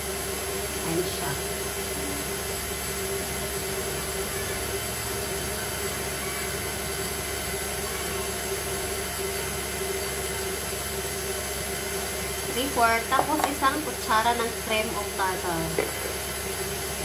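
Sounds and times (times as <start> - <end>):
stand mixer whirring: 0.0 - 17.0.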